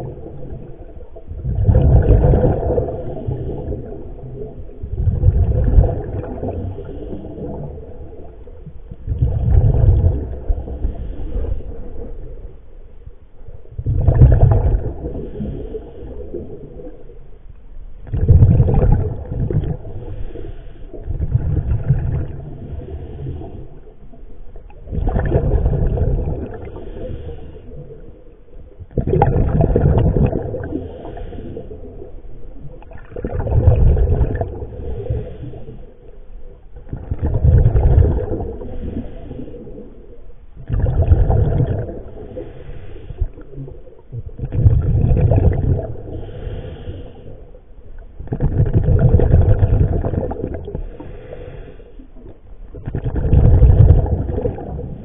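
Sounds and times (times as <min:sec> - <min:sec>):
underwater exhaled bubbles gurgling: 0:00.0 - 0:55.0.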